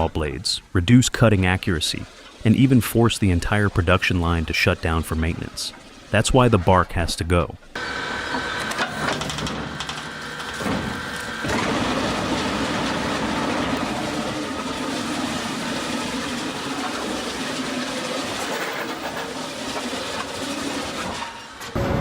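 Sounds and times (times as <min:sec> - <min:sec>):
log debarker machinery running: 0:00.0 - 0:22.0.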